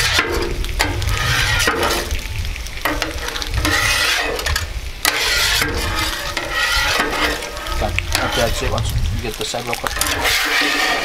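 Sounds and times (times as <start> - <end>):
scraper scraping metal griddle: 0.0 - 2.2, 2.8 - 8.8, 9.8 - 11.0
food sizzling on griddle: 0.0 - 11.0.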